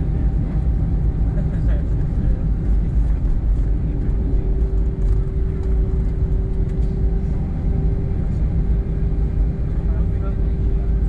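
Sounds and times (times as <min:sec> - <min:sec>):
deep rumble of aircraft engines: 0:00.0 - 0:11.0.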